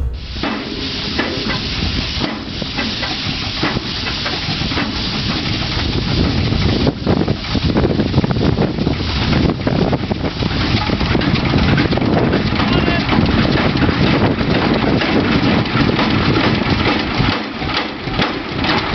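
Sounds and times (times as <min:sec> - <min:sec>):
diesel engine chuffing and hissing: 0:00.0 - 0:17.8.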